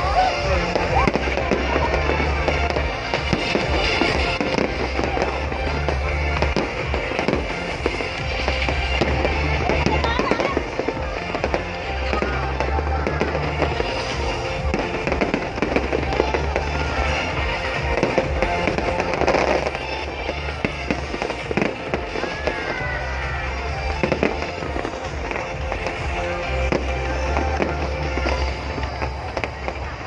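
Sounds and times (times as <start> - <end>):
loud music with bass: 0.0 - 29.8
fireworks bangs and crackling: 0.0 - 30.0.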